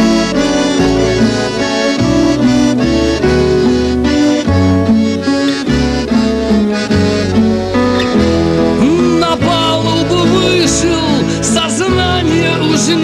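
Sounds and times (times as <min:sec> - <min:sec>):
accordion waltz: 0:00.0 - 0:13.0
bass line: 0:00.0 - 0:13.0.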